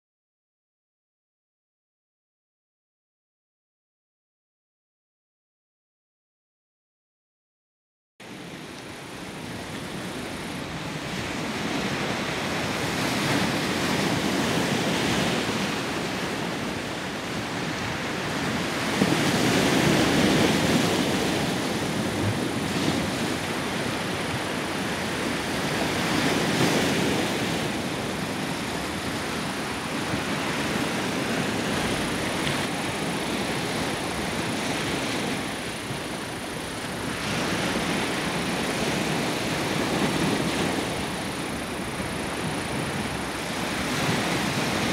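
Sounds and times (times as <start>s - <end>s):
choppy sea waves: 8.2s - 44.9s.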